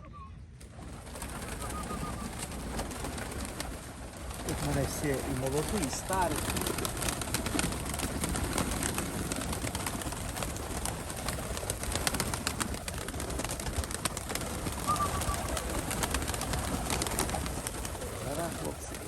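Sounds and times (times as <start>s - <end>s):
pigeons cooing: 0.9s - 19.0s.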